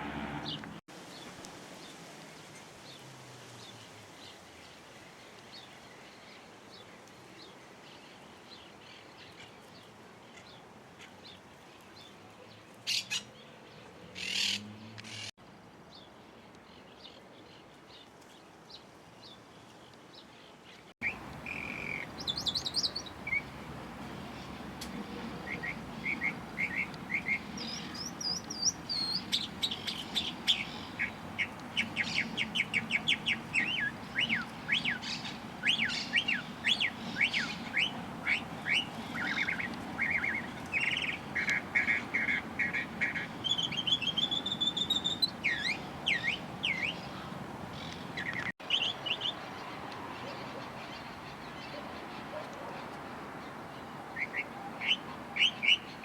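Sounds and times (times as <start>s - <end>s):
songbirds chirping and trilling: 0.0s - 1.3s, 3.6s - 15.3s, 15.9s - 56.0s.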